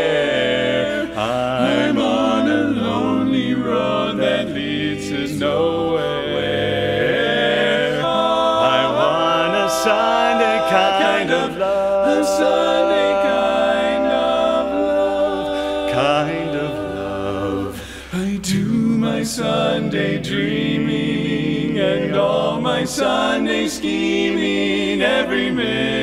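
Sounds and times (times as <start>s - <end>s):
male quartet singing a cappella: 0.0s - 26.0s.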